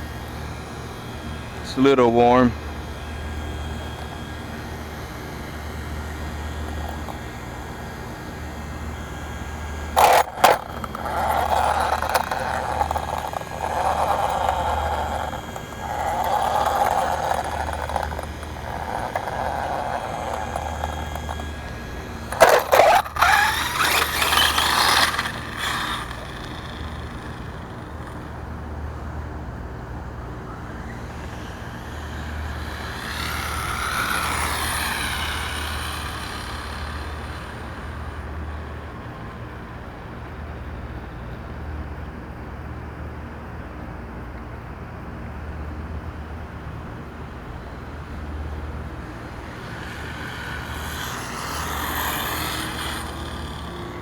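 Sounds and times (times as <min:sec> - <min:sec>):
electric motor whining: 0:00.0 - 0:39.6, 0:47.5 - 0:54.0.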